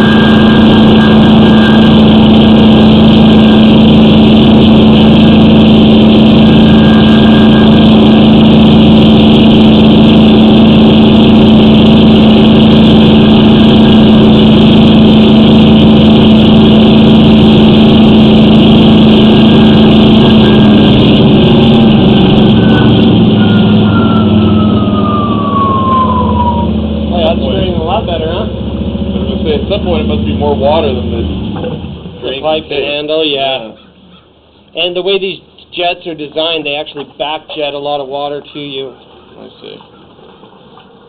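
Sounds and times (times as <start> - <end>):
falling whine: 0.0 - 33.7
engine and pump running: 0.0 - 41.0.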